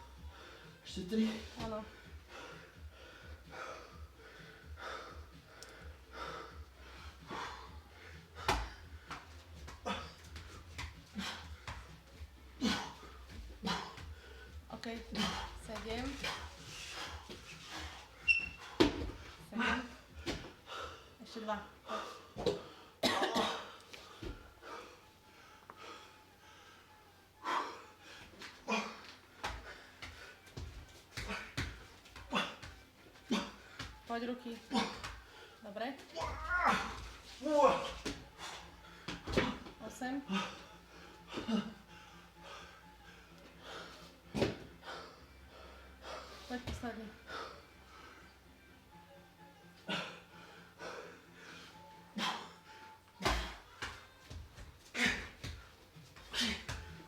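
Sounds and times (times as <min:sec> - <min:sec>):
heavy rhythmic breathing: 0:00.0 - 0:57.0.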